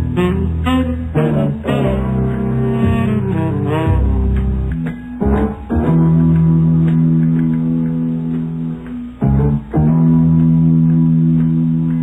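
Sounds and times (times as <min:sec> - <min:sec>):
plucked guitar notes: 0:00.0 - 0:12.0
sustained bass notes: 0:00.0 - 0:12.0.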